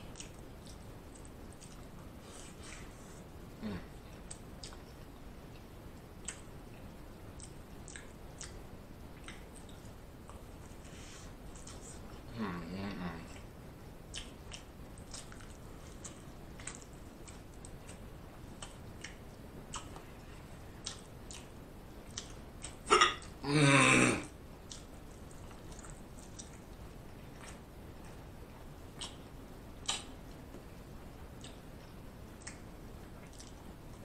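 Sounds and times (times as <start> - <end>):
chewing broccoli: 0.0 - 23.4, 24.6 - 34.0.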